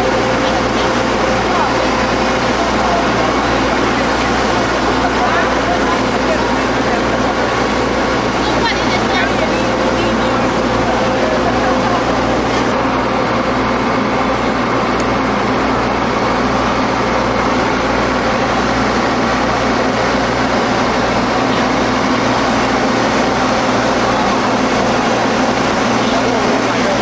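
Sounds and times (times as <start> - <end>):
diesel railcar engine humming: 0.0 - 27.0.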